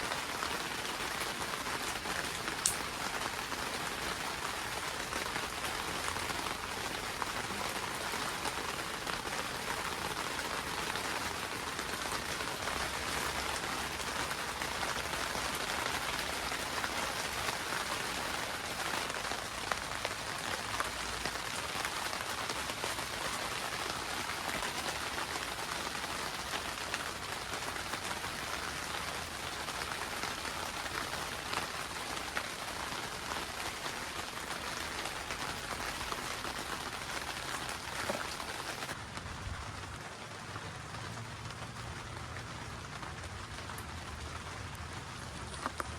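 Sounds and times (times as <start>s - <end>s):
rain on a plastic roof: 0.0s - 45.9s.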